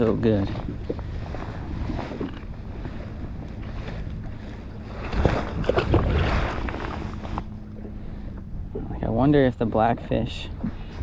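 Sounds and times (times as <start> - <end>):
water lapping at kayak hull: 0.0 - 11.0
wind on microphone: 0.0 - 11.0.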